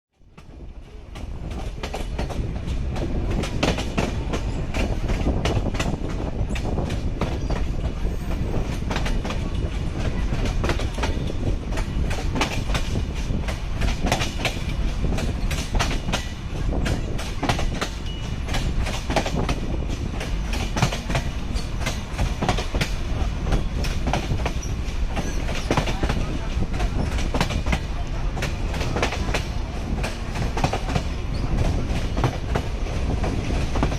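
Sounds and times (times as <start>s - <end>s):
train rumbling: 0.2s - 33.9s.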